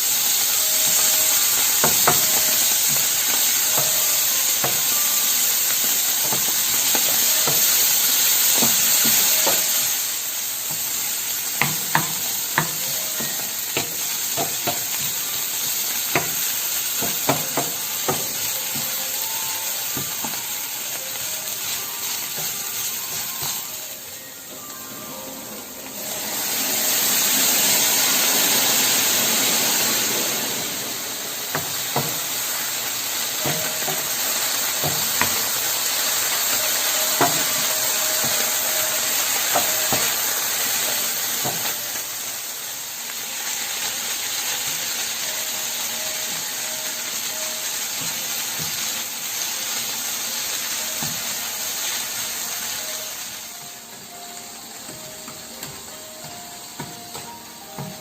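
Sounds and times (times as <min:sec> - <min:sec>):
rice sizzling in a frying pan: 0:00.0 - 0:58.0.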